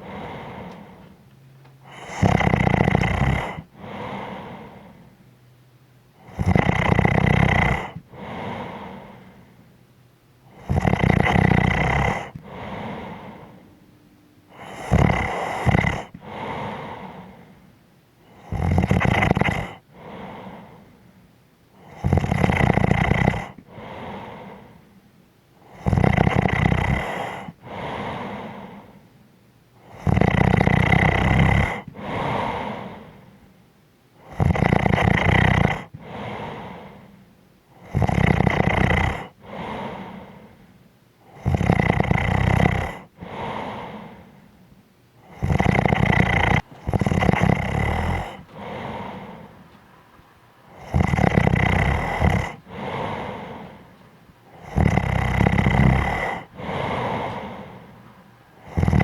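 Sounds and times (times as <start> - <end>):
person snoring: 0.0 - 1.1, 1.8 - 5.1, 6.2 - 9.6, 10.5 - 13.7, 14.5 - 21.0, 21.8 - 24.9, 25.6 - 29.1, 29.8 - 33.4, 34.2 - 44.5, 45.2 - 49.6, 50.7 - 57.9, 58.6 - 59.0.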